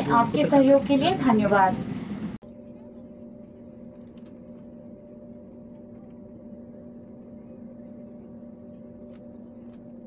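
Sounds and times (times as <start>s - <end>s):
airliner cabin drone: 0.0s - 10.0s
steady humming tones: 0.0s - 10.0s.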